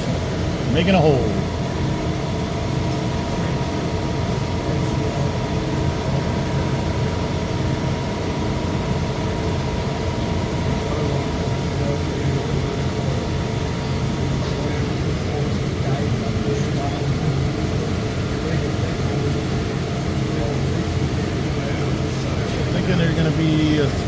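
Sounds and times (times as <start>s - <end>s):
lathe mechanical hum: 0.0s - 24.0s
steady machine tones: 0.0s - 24.0s.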